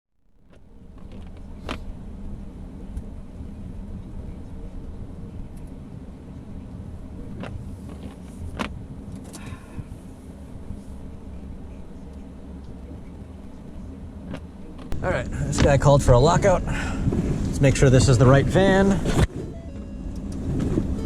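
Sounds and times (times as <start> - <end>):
vehicle engine rumbling: 0.2 - 21.0.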